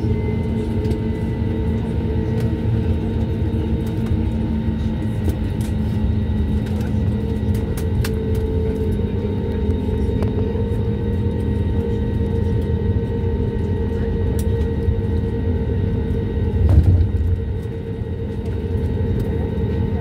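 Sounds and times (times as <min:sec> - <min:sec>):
airliner cabin rumble and hum: 0:00.0 - 0:20.0.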